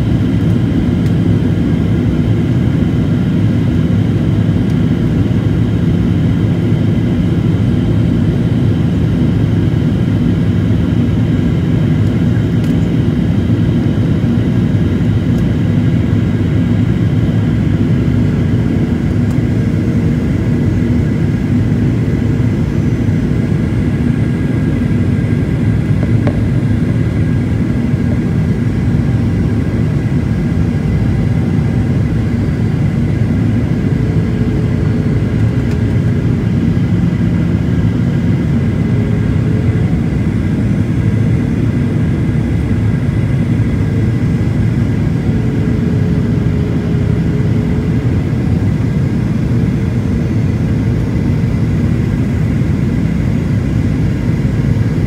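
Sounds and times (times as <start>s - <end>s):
aeroplane engines and rushing air: 0.0s - 55.0s.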